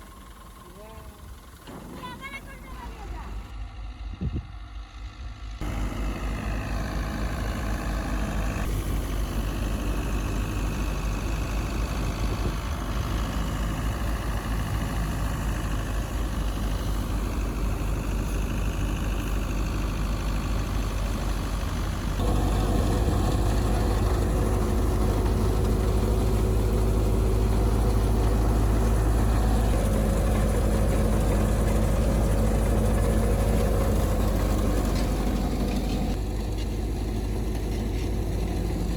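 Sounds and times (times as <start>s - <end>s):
farm machinery engine running: 0.0s - 38.9s.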